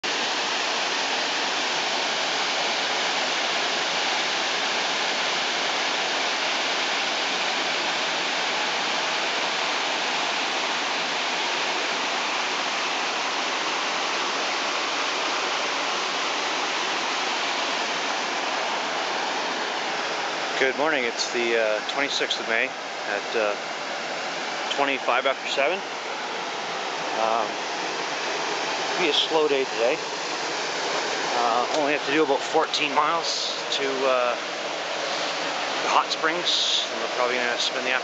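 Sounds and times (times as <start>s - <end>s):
creek water rushing over rocks: 0.0s - 38.0s.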